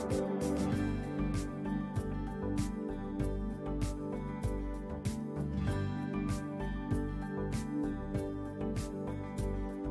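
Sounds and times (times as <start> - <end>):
background music with steady beat: 0.0 - 9.9.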